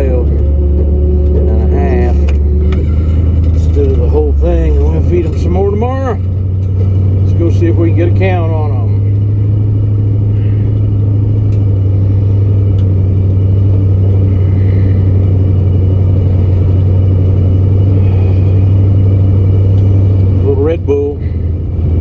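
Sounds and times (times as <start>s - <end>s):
pickup truck engine rumbling: 0.0s - 22.0s.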